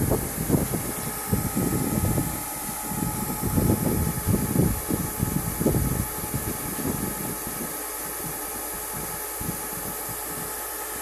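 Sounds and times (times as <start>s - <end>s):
low rumbles: 0.0s - 10.6s
auger running: 0.0s - 11.0s.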